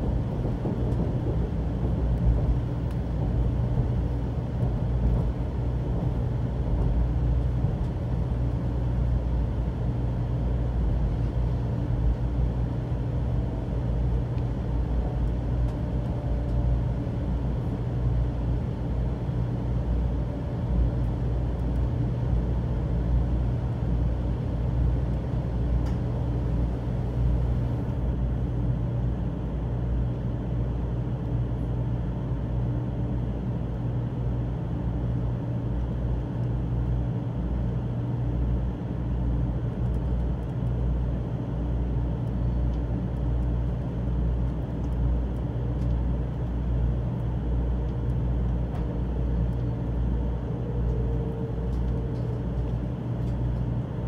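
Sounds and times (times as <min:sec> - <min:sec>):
train carriage hum and rumble: 0:00.0 - 0:54.0.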